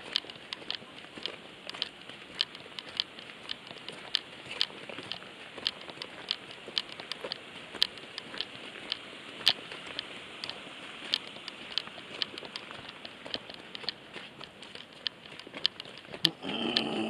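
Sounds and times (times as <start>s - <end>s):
footsteps on gravel: 0.0s - 17.0s.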